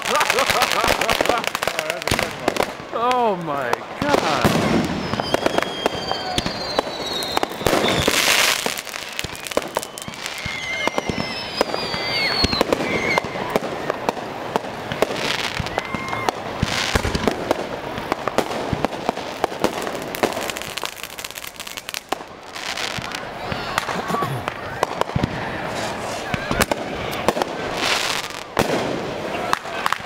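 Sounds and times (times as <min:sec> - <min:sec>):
fireworks cracking and banging: 0:00.0 - 0:30.0
firework whistles gliding down: 0:04.0 - 0:30.0.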